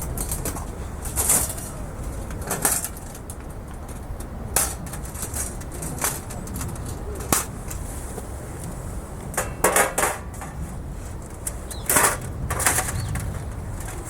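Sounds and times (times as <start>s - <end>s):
metal grill parts clinking and scraping: 0.1s - 7.8s, 9.3s - 14.0s.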